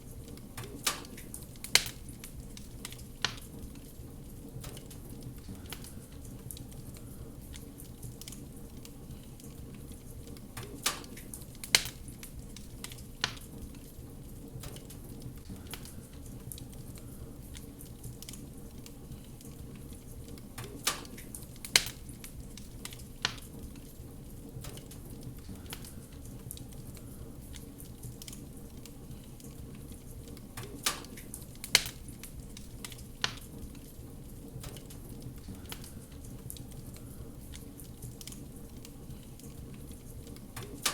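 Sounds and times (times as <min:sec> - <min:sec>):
wood fire crackling: 0:00.0 - 0:40.9
sharp pops of burning wood: 0:00.3 - 0:06.8, 0:07.4 - 0:40.9.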